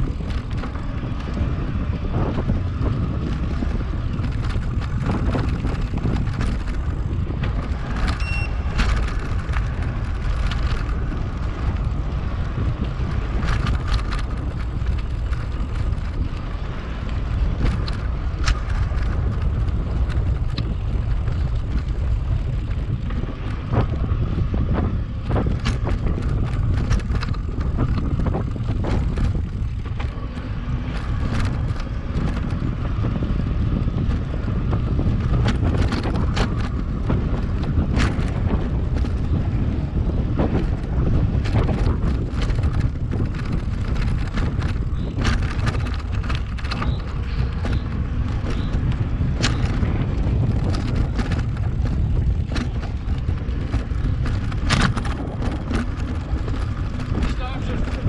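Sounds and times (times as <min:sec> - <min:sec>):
bike clicking and rattling: 0:00.0 - 0:58.0
wind rumbling on microphone: 0:00.0 - 0:58.0.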